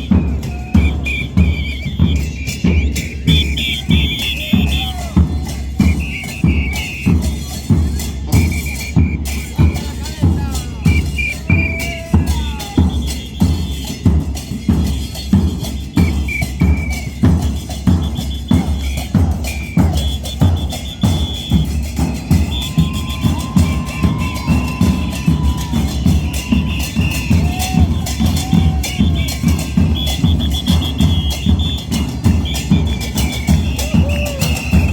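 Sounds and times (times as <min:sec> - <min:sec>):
bass drums beating: 0:00.0 - 0:34.9
sharp percussion strokes: 0:00.0 - 0:34.9.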